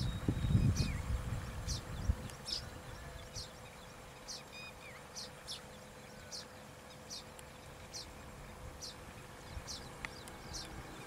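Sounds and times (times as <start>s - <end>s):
faint steady hum: 0.0s - 11.0s
small birds chirping: 0.0s - 11.0s.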